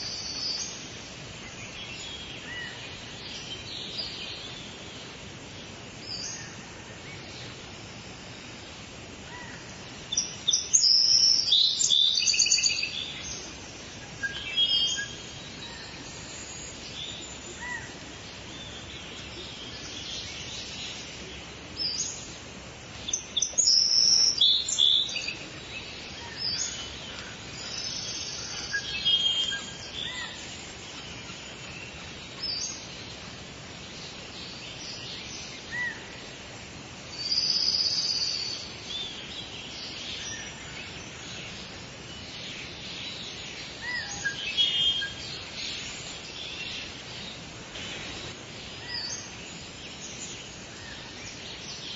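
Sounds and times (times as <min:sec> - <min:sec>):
songbirds chirping: 0:00.0 - 0:51.9
steady background hiss: 0:00.0 - 0:51.9.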